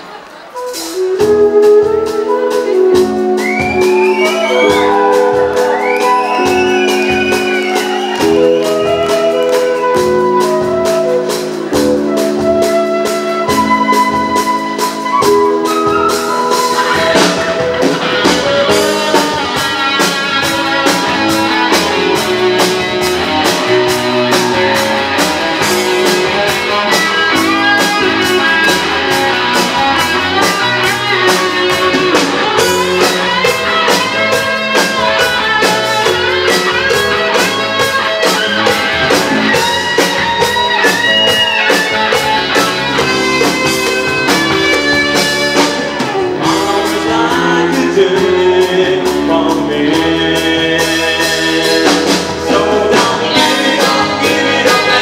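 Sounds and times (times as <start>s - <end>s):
electric guitars: 0.0s - 55.0s
drum kit beat: 0.1s - 55.0s.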